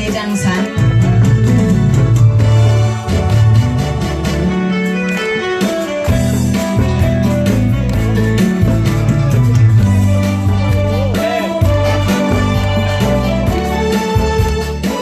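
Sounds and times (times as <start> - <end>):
bass and drum beat: 0.0 - 4.8, 5.6 - 15.0
guitar melody: 0.2 - 15.0.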